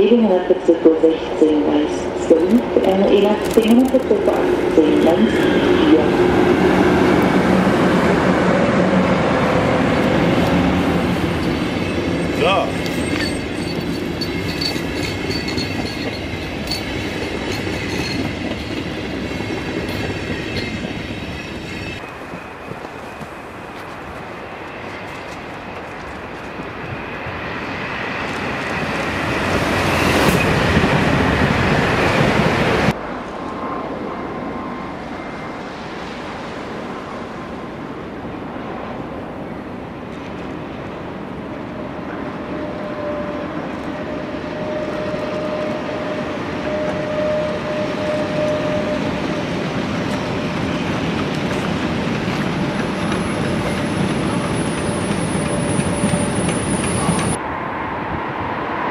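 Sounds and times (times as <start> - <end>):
freight train rumbling past: 0.0 - 58.9
train approaching: 0.0 - 58.9.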